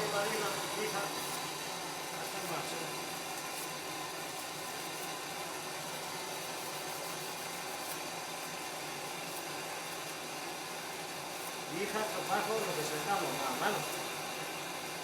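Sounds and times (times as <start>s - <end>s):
blowtorch hissing: 0.0s - 15.0s.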